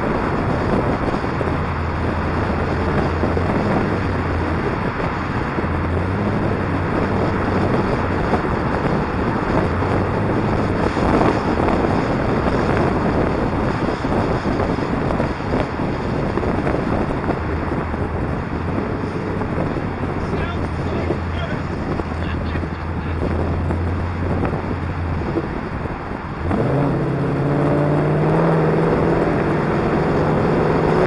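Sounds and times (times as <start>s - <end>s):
car engine hum: 0.0s - 31.0s
road noise: 0.0s - 31.0s
wind buffeting microphone: 0.0s - 31.0s.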